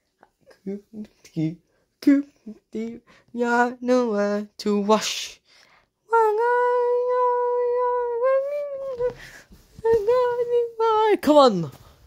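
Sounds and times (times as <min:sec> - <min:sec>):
high voice singing: 0:00.4 - 0:05.4, 0:06.1 - 0:09.2, 0:09.8 - 0:11.5.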